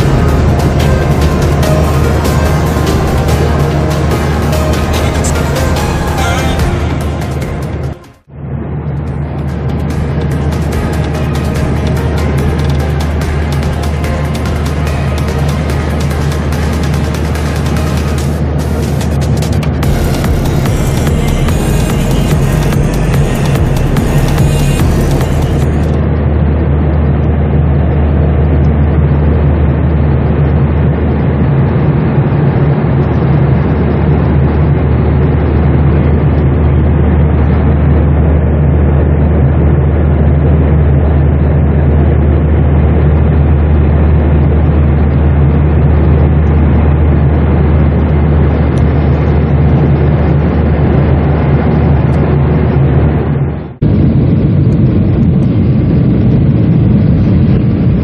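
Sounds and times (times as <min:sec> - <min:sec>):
airliner cabin engine drone: 0:00.0 - 0:58.0.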